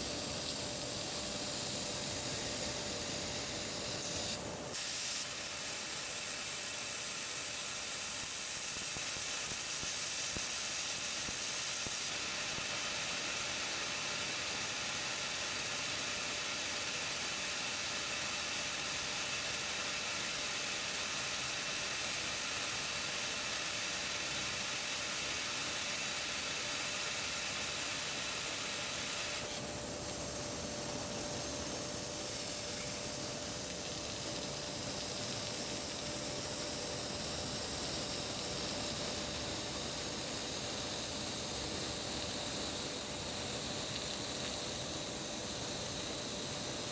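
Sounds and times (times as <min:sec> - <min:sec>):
laser cutter gas jet hiss: 0:00.0 - 0:46.9.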